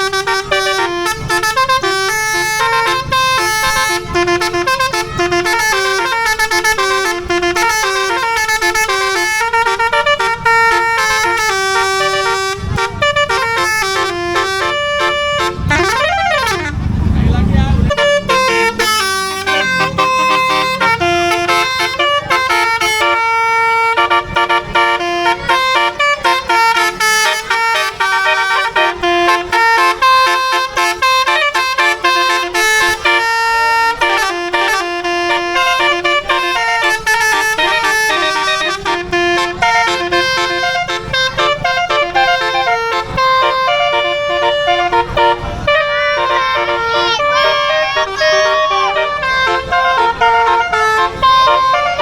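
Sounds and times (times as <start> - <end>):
bus air horns playing a tune: 0.0 - 52.0.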